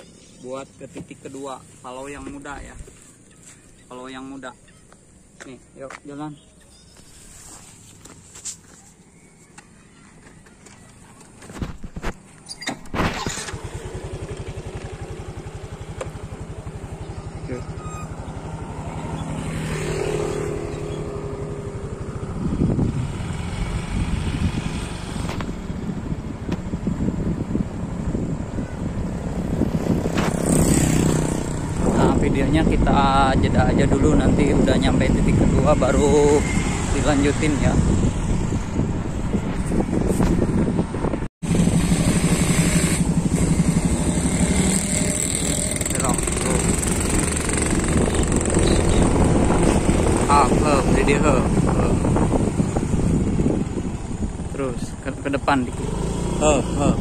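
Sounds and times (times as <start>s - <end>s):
motorcycle engine running: 9.5s - 57.0s.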